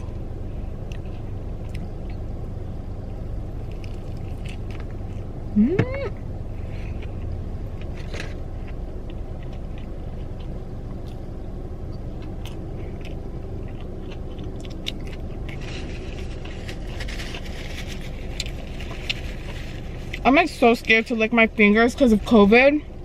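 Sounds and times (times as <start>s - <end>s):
chewing crispy food: 0.0s - 2.3s, 3.0s - 5.4s, 6.6s - 21.0s
low rumble: 0.0s - 23.0s.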